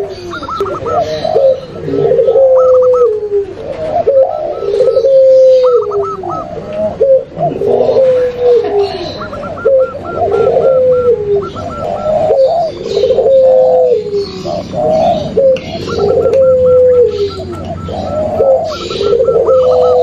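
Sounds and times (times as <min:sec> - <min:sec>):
doves cooing: 0:00.0 - 0:20.0.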